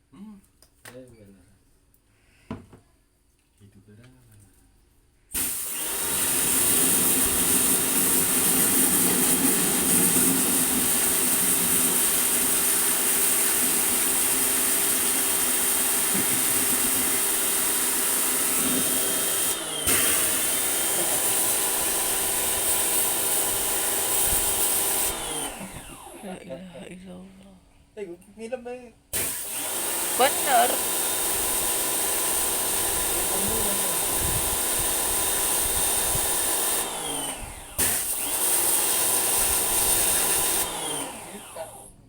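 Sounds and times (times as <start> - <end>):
electric motor machine running: 5.4 - 26.4, 29.2 - 42.0.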